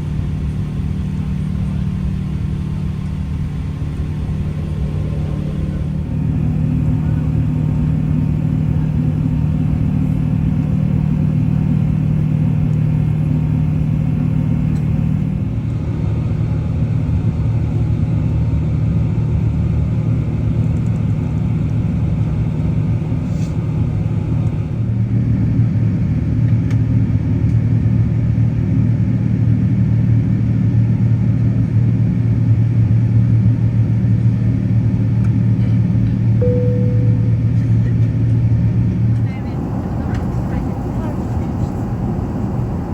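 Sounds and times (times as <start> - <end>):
airplane engine drone: 0.0 - 42.9.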